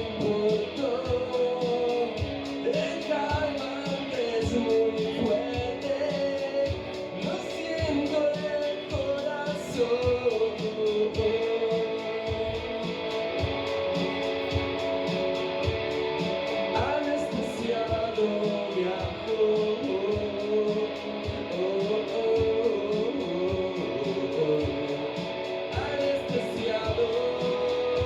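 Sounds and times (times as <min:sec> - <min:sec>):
electric guitar: 0:00.0 - 0:28.0
person singing: 0:00.0 - 0:28.0
steady drum beat: 0:00.0 - 0:28.0.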